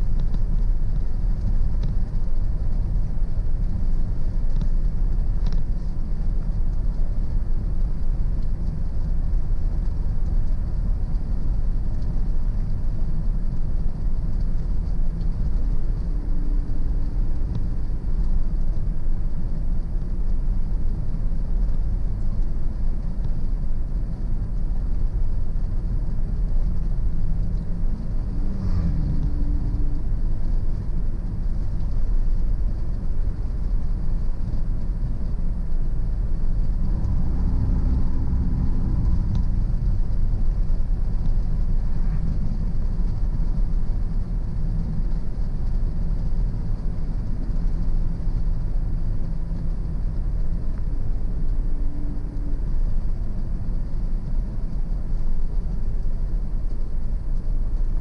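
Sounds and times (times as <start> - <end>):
car tyres and engine rumbling: 0.0 - 58.0.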